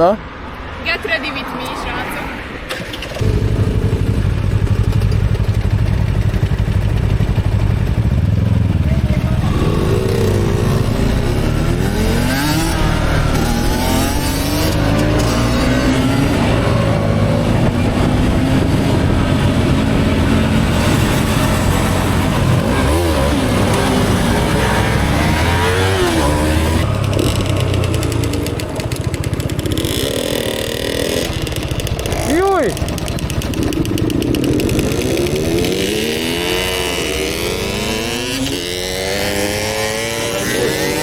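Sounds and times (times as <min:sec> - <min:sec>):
motorcycle engine revving: 0:02.7 - 0:41.0.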